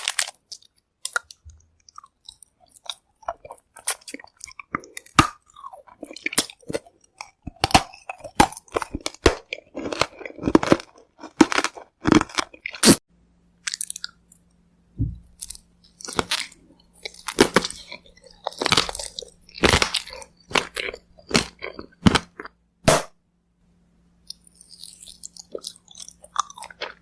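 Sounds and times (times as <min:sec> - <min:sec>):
candy crunching: 0:00.0 - 0:13.0, 0:13.6 - 0:14.5, 0:15.2 - 0:23.1, 0:24.3 - 0:27.0
soft chewing: 0:00.3 - 0:12.8, 0:13.6 - 0:22.6, 0:24.2 - 0:27.0.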